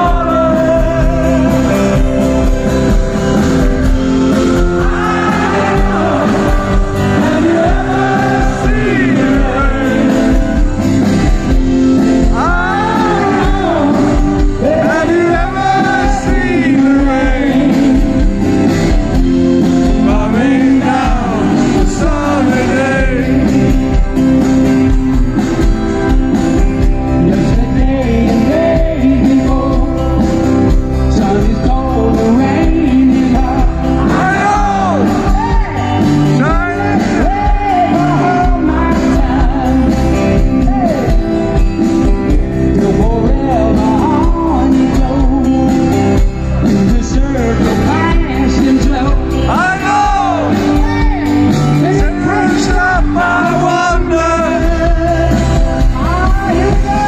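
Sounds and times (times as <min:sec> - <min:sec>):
person singing: 0:00.0 - 0:02.6, 0:04.1 - 0:18.7, 0:19.7 - 0:24.4, 0:26.8 - 0:57.0
live rock band: 0:00.0 - 0:57.0
steady drum beat: 0:00.0 - 0:57.0
strummed acoustic guitar: 0:00.0 - 0:57.0.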